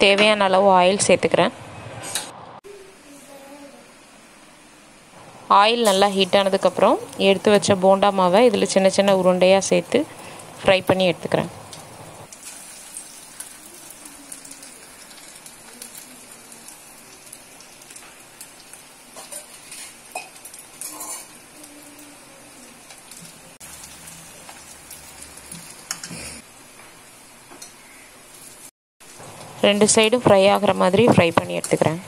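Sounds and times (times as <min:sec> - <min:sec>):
batter deep-frying in hot oil: 0:05.4 - 0:32.0.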